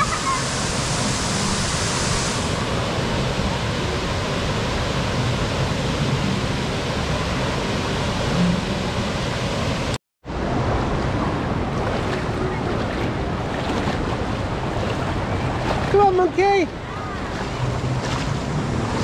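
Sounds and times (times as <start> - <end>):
water rushing in wave pool: 0.0 - 19.0.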